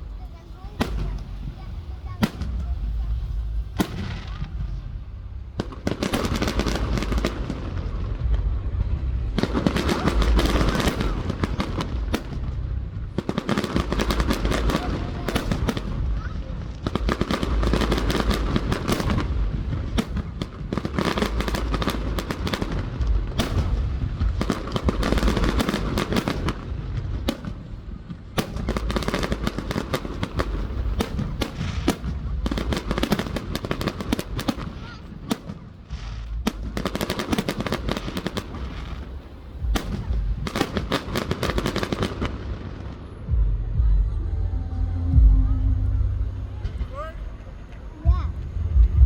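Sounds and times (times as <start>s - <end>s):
fireworks crackling: 0.0s - 43.3s
fireworks bangs: 0.0s - 43.9s.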